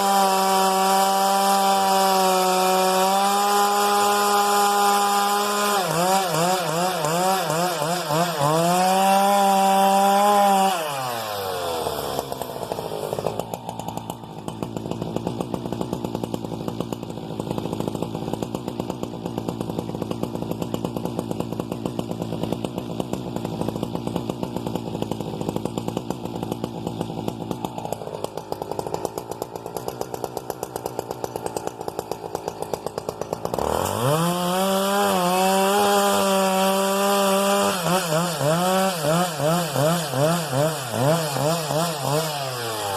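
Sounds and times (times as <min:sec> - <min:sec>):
chainsaw revving and idling: 0:00.0 - 0:42.9.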